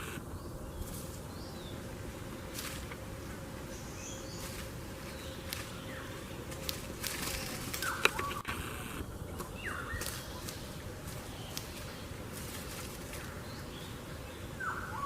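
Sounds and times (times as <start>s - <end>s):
insect buzz: 0.0s - 15.0s
low outdoor rumble: 0.0s - 15.0s.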